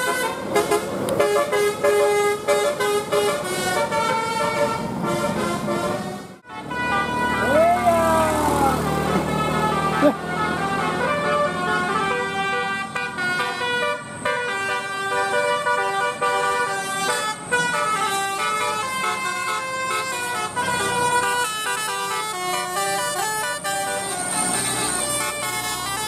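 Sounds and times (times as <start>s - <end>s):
bus musical horn playing a tune: 0.0s - 26.0s.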